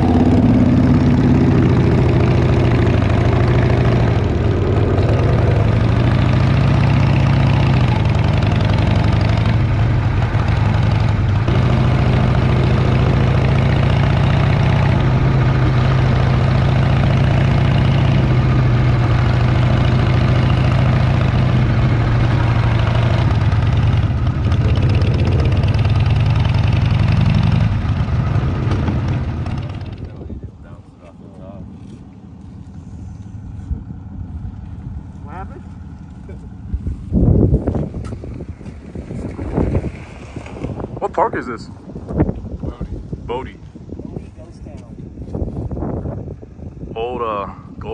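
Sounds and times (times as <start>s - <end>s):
motorcycle engine running: 0.0s - 47.9s
road noise on dirt road: 0.0s - 47.9s
wind: 0.0s - 47.9s.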